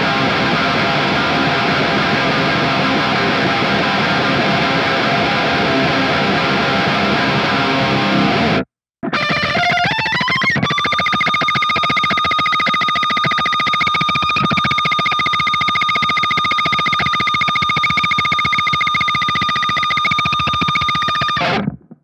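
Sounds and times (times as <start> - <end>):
distorted electric guitar: 0.0 - 22.0.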